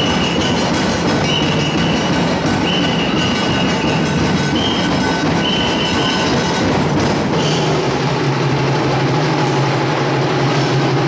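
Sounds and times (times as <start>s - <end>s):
percussion band drumming: 0.0s - 11.0s.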